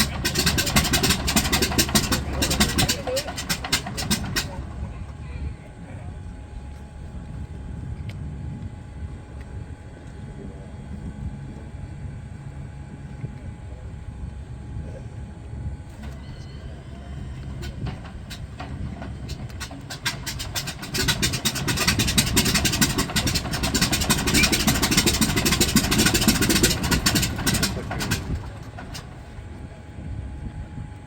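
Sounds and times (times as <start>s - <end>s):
radial aircraft engine running: 0.0s - 31.0s.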